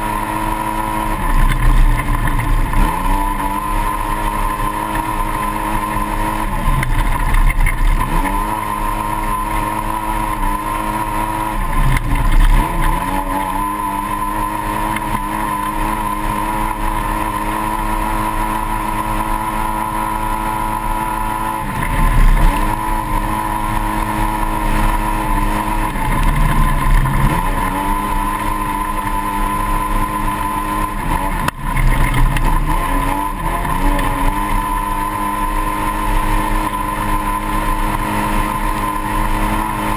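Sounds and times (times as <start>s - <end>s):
buggy engine running hard: 0.0s - 39.9s.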